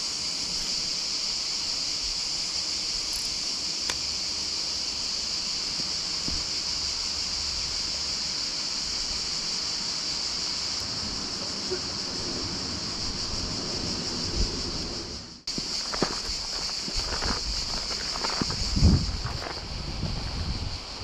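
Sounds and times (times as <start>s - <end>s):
insect chorus hissing: 0.0s - 21.0s.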